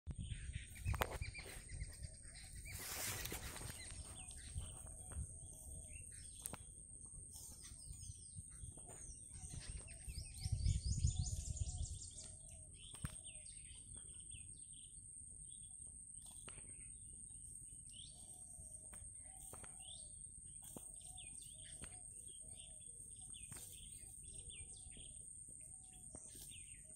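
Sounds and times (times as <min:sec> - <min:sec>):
small birds chirping: 0:00.1 - 0:26.9.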